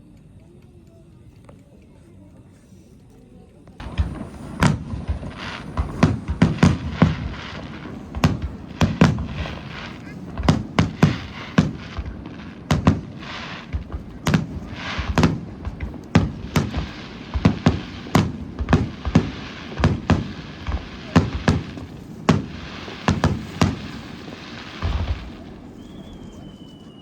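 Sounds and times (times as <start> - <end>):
fireworks booming: 3.8 - 27.0
fireworks crackling hiss: 3.8 - 27.0.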